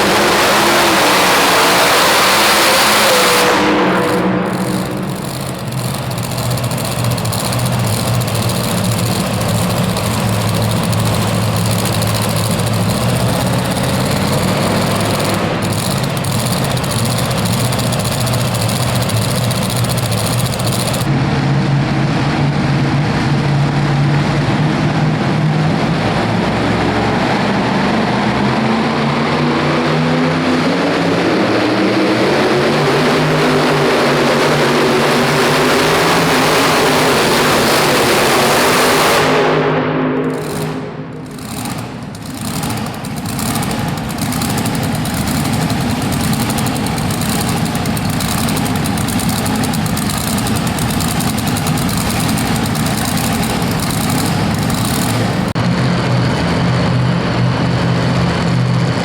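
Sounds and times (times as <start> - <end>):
pulling truck engine roaring: 0.0 - 59.0.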